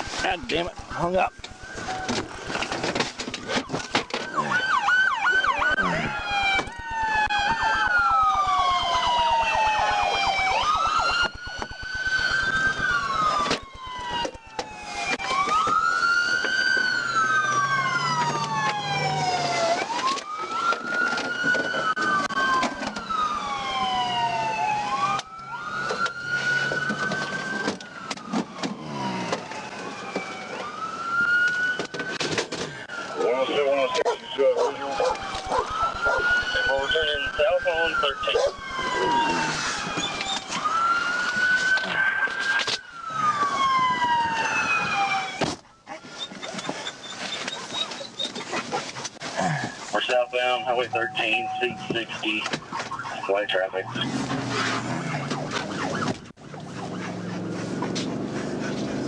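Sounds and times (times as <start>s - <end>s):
second siren: 0.0s - 48.4s, 49.7s - 59.0s
police car siren wailing: 0.0s - 59.0s.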